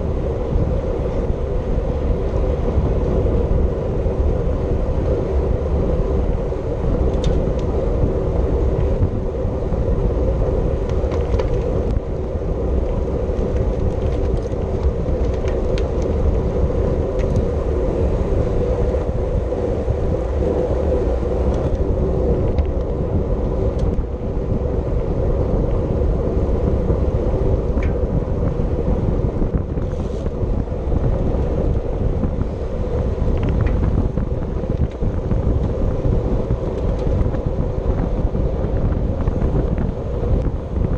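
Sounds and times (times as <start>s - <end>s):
steady hum: 0.0s - 40.9s
wind buffeting microphone: 0.0s - 40.9s.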